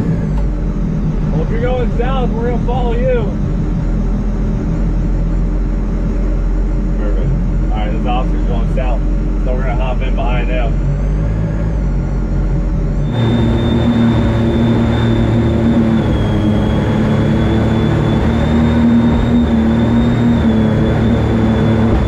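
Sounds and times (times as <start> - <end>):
high whine: 0.0 - 22.0
jet boat engine running: 0.0 - 22.0.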